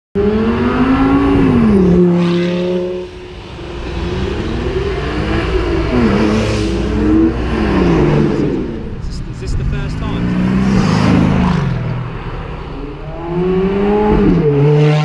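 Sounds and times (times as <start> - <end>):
car engines accelerating hard: 0.2 - 15.0
sports car passing at full throttle: 0.2 - 15.0.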